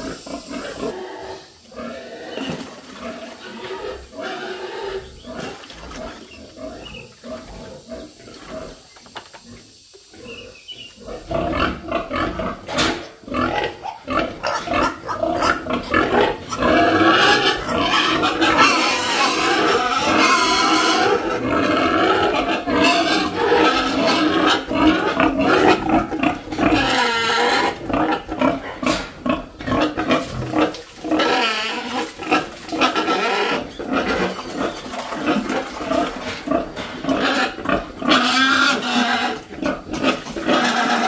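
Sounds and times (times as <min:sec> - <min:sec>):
pigs squealing: 0:00.0 - 0:08.8, 0:10.2 - 0:41.0.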